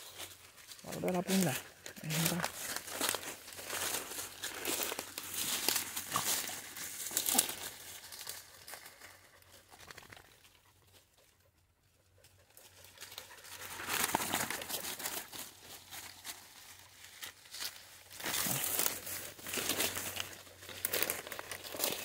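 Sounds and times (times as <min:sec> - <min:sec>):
dry leaves and twigs rustling: 0:00.0 - 0:11.4, 0:12.2 - 0:22.0.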